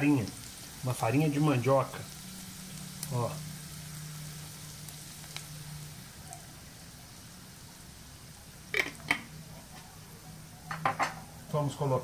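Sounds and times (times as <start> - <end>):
garlic sizzling in skillet: 0.0 - 12.0.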